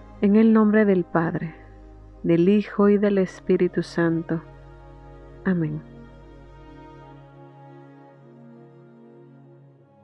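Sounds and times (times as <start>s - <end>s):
soft slow sustained music: 0.0s - 10.0s.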